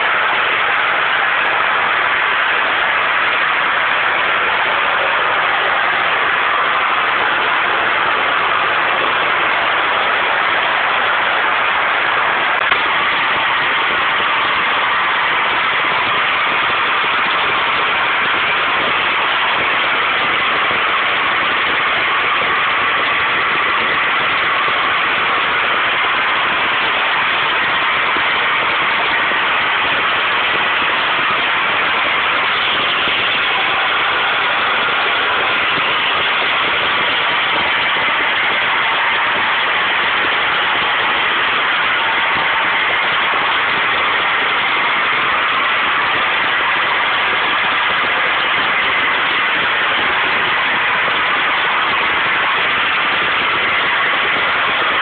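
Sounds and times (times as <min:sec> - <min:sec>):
gas jetting with loud hiss: 0:00.0 - 0:55.0.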